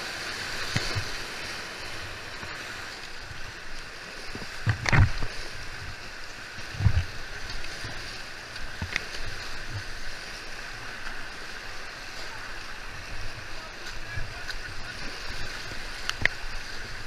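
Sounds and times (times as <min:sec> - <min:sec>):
rushing whitewater river: 0:00.0 - 0:17.0.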